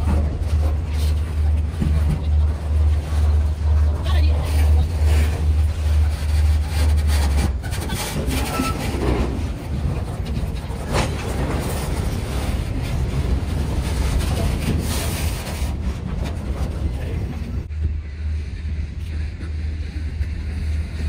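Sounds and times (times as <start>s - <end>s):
wheels clicking over rail joints: 0.0s - 17.7s
freight train rumbling past: 0.0s - 21.0s.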